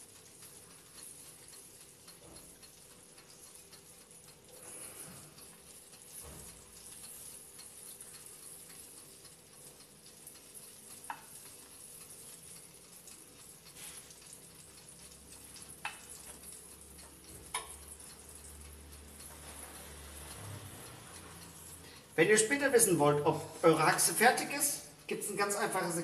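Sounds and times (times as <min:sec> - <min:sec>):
hot fat sizzling: 0:00.0 - 0:26.0.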